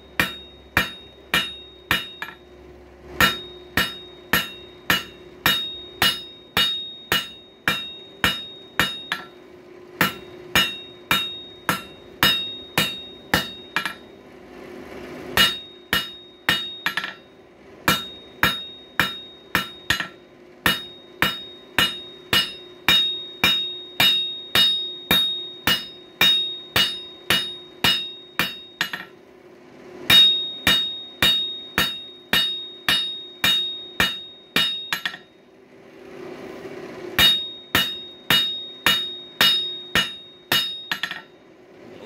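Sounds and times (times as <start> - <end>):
hammer striking steel on anvil: 0.0 - 14.3, 14.9 - 29.3, 29.9 - 35.4, 36.9 - 41.4
low steady hum: 0.0 - 42.0.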